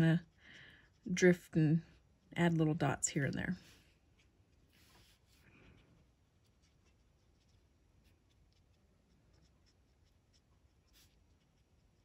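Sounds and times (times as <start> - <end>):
marker nib scratching paper: 0.0 - 2.7, 3.6 - 12.0.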